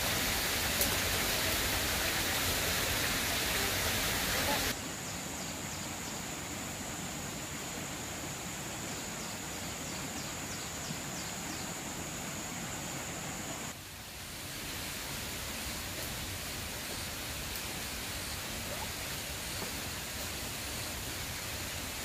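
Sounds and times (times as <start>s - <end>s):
even hiss: 0.0s - 22.0s.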